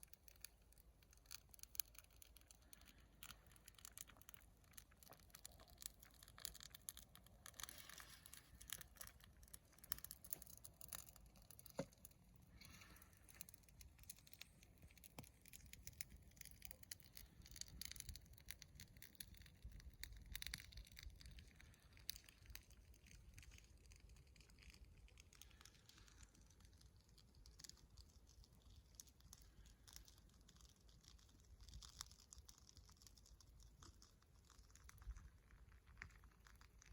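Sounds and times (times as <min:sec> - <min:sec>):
fire crackling: 0:00.0 - 0:32.2.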